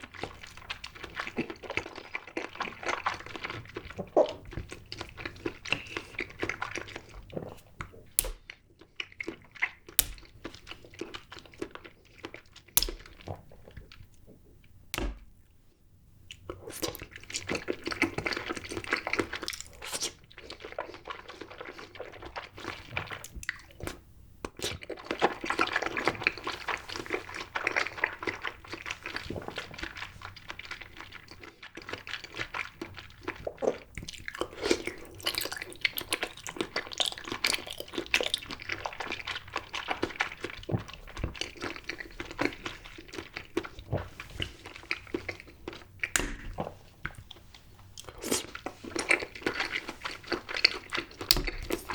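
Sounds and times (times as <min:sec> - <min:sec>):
wet chewing and mouth smacks: 0:00.0 - 0:15.2, 0:16.3 - 0:51.9.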